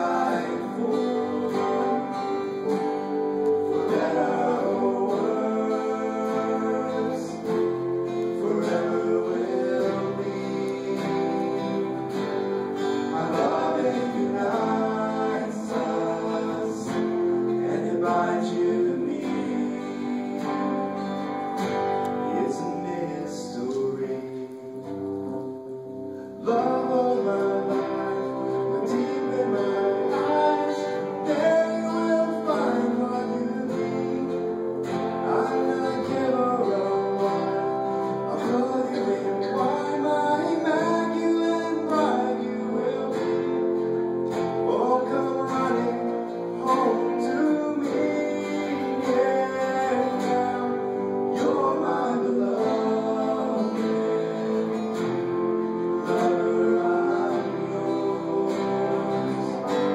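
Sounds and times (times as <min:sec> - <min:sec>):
men singing together: 0:00.0 - 0:21.3, 0:22.2 - 0:24.4, 0:26.4 - 0:59.9
acoustic guitar: 0:00.0 - 0:59.9.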